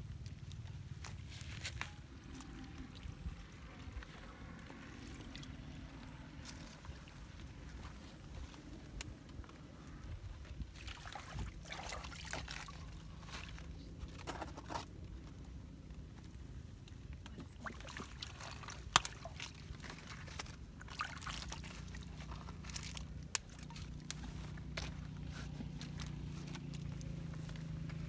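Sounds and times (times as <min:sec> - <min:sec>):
faint low hum: 0:00.0 - 0:28.0
muddy water sloshing: 0:00.0 - 0:28.0.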